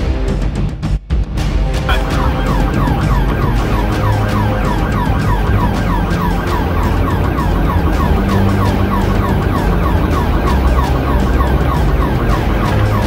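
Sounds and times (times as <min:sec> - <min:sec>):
car engine and road noise: 0:01.9 - 0:13.0
police siren yelping: 0:01.9 - 0:13.0.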